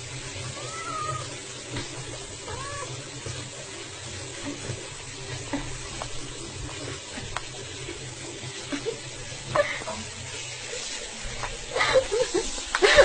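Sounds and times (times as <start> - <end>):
bathwater hiss: 0.0 - 13.0
water drips and splashes: 0.0 - 13.0.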